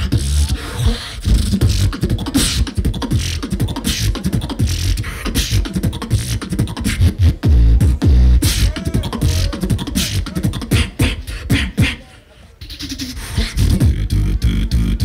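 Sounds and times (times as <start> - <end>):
amplified beatboxing: 0.0 - 15.0.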